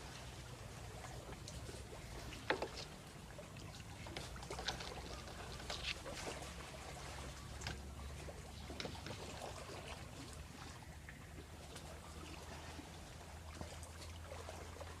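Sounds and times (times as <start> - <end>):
seawater splashing and trickling: 0.0 - 15.0
small drips and crackles: 0.0 - 15.0.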